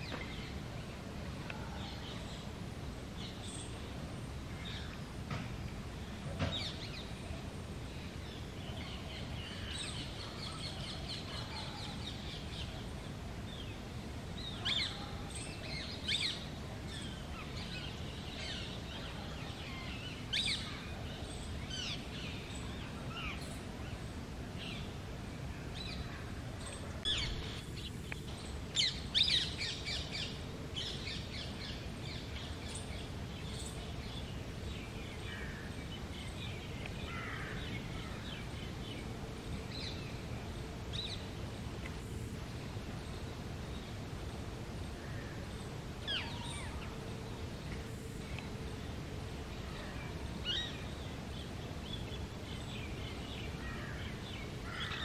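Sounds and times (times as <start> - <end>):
low outdoor background noise: 0.0 - 55.0.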